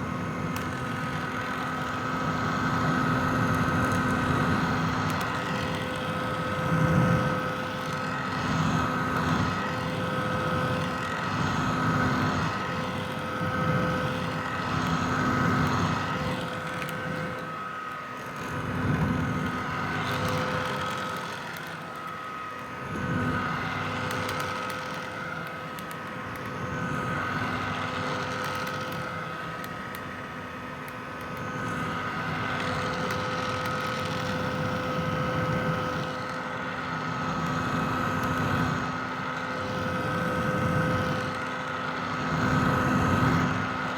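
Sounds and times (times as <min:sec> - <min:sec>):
hair dryer running: 0:00.0 - 0:43.9.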